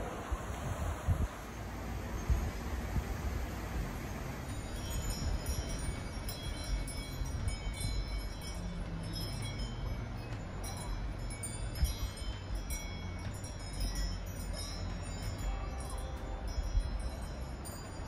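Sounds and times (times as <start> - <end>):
wind buffeting microphone: 0.0 - 18.0
wind chimes tinkling: 1.2 - 18.0.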